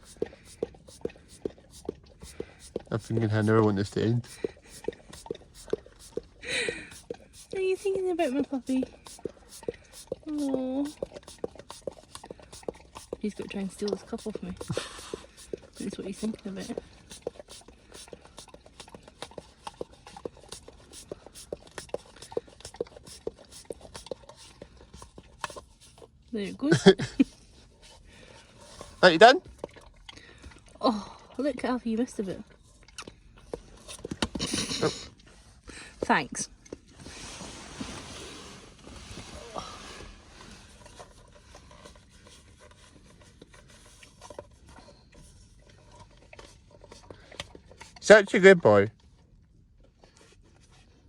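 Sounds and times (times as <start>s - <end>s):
dog licking and lapping: 0.0s - 37.0s, 40.5s - 51.0s.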